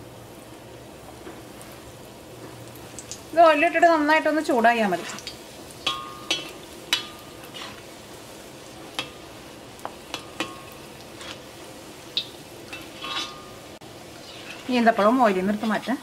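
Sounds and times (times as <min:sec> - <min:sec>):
nuts frying in hot oil: 0:00.0 - 0:16.0.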